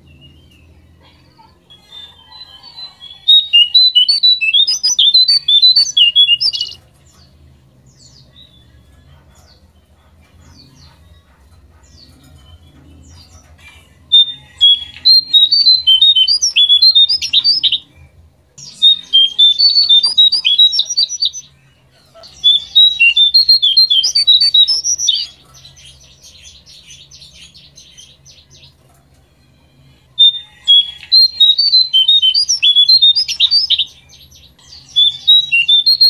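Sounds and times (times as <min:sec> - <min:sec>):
bird twittering song: 0:01.7 - 0:29.0, 0:30.2 - 0:36.0.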